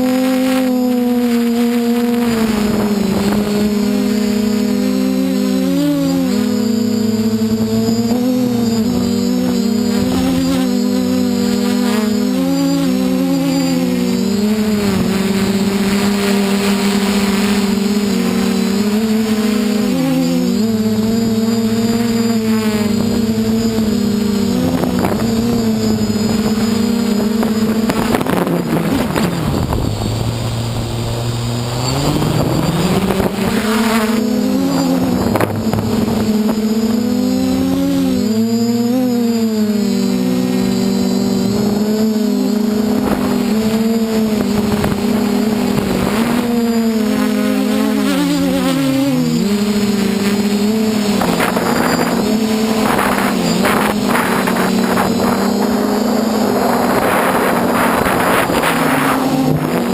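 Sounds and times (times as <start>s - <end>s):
quadcopter propellers buzzing: 0.0s - 59.9s.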